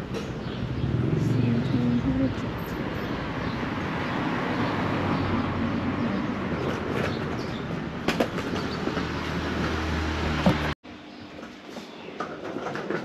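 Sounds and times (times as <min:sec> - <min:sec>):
vehicle engine rumble: 0:00.0 - 0:10.8
road noise: 0:00.0 - 0:13.0.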